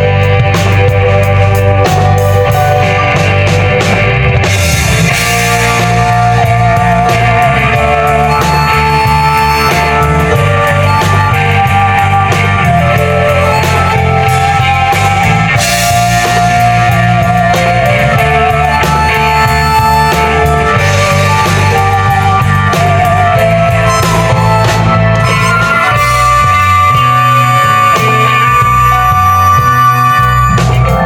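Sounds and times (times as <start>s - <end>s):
band with bass and drums: 0.0s - 31.0s
bamboo flute melody with vibrato: 4.5s - 31.0s.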